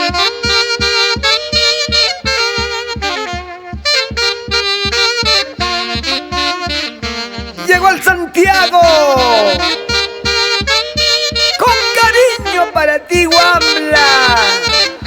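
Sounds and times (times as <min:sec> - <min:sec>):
saxophones playing melody: 0:00.0 - 0:15.0
steady drum beat: 0:00.0 - 0:15.0.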